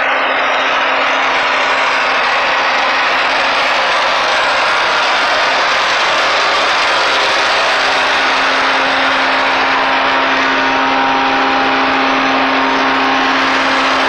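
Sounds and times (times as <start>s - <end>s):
blower rushing hiss: 0.0s - 14.0s
truck engine hum: 0.1s - 14.0s.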